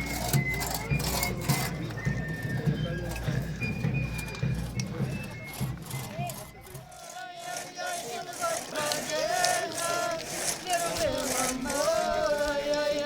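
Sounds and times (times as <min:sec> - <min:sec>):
people's voices overlapping: 0:00.0 - 0:13.0.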